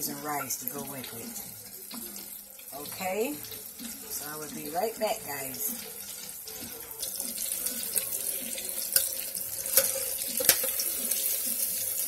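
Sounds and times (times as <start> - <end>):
shrimp deep-frying in oil: 0.0 - 12.0.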